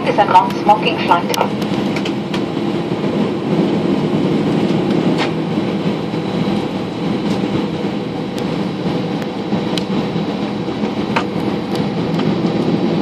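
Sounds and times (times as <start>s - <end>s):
jet engines humming: 0.0s - 13.0s
low rolling rumble: 0.0s - 13.0s.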